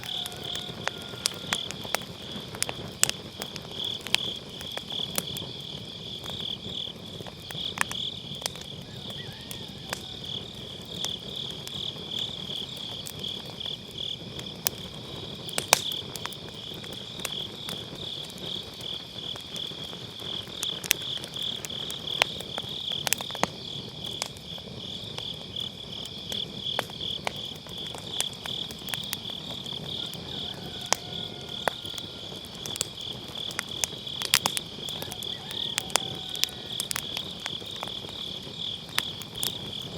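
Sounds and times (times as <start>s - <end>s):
firewood crackling and popping: 0.0s - 39.9s
insects chirping: 0.0s - 39.9s.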